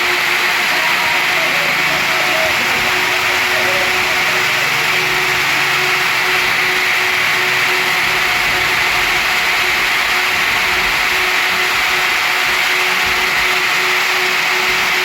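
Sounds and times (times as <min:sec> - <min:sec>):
router carving wood: 0:00.0 - 0:15.0.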